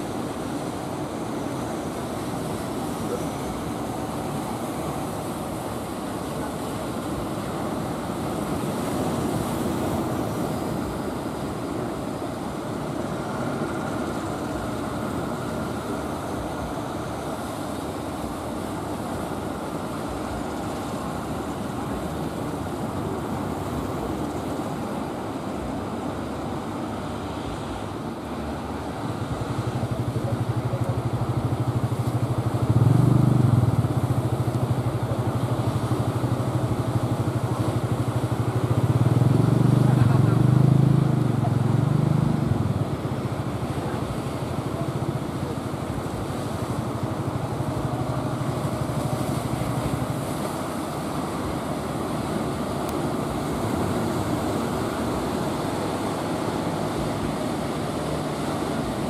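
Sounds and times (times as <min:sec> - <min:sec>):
boat engine running: 0:00.0 - 0:59.0
sea surf rushing: 0:00.0 - 0:59.0.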